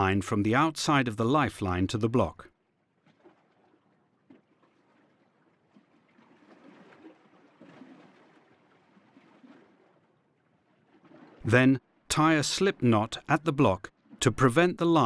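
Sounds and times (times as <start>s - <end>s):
faint water lapping: 0.0s - 15.0s.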